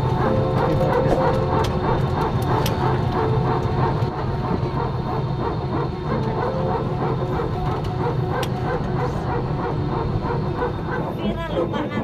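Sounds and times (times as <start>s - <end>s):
low cabin hum: 0.0s - 12.0s
rapid pulsing engine sound: 0.0s - 12.0s.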